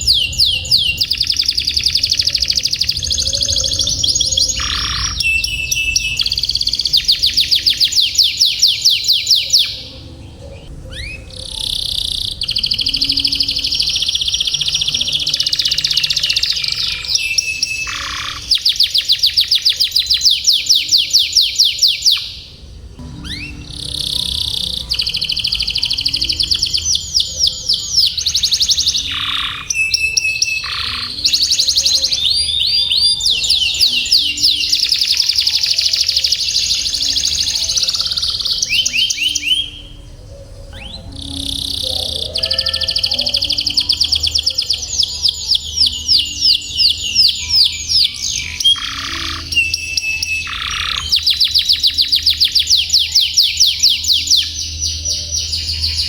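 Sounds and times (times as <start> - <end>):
canary singing rolling trills: 0.0 - 56.0.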